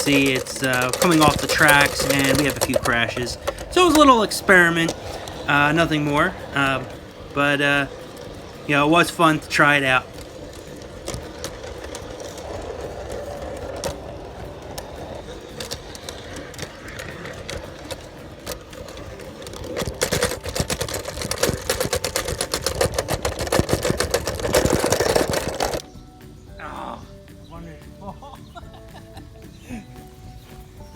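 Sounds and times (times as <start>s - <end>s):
motor hum: 0.0s - 26.0s
train wheels clicking over rails: 0.0s - 26.6s.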